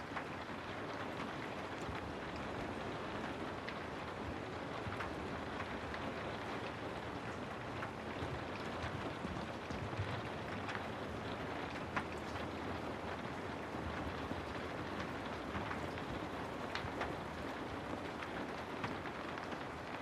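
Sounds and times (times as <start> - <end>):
rain falling on a house: 0.0 - 20.0.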